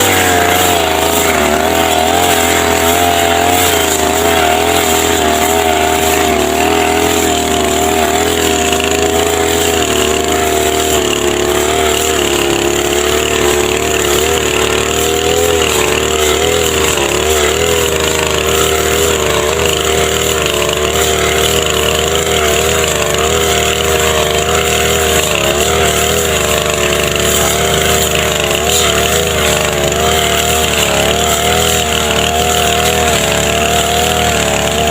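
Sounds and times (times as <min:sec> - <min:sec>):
brush cutter engine cutting grass: 0:00.0 - 0:34.9.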